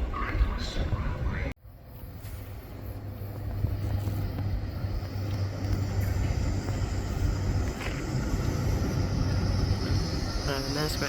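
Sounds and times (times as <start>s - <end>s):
train humming: 0.0s - 11.0s.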